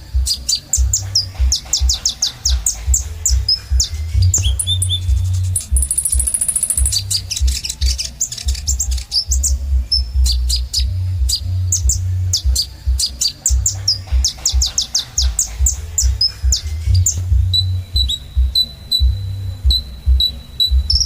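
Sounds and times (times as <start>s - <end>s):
low throbbing hum: 0.0s - 21.0s
sunbird chirps and trills: 0.0s - 21.0s.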